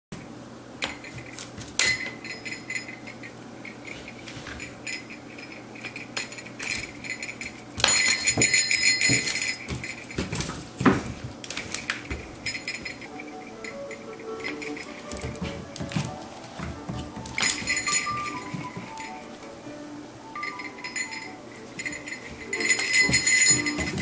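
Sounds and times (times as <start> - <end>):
rattling and clinking: 0.8 - 19.4, 20.3 - 24.0.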